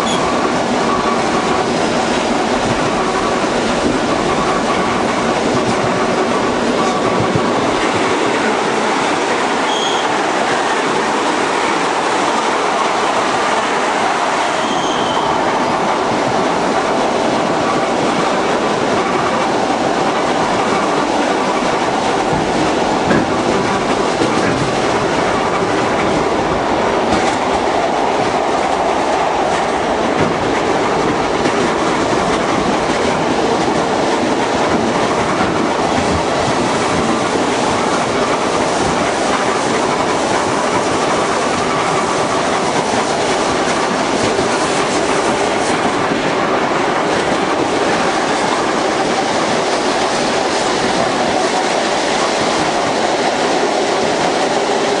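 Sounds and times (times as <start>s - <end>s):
train rumbling inside carriage: 0.0s - 55.0s
wheels clacking over rail joints: 0.0s - 55.0s.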